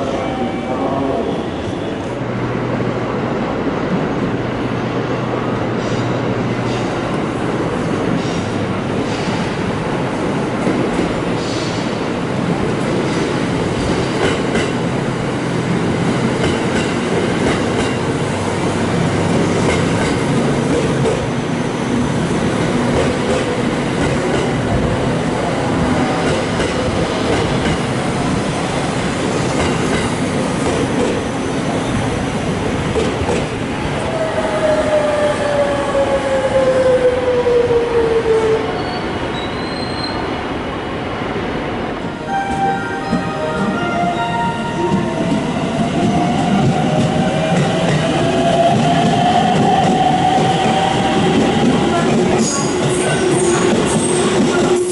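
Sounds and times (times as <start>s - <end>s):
train rolling past: 0.0s - 54.9s.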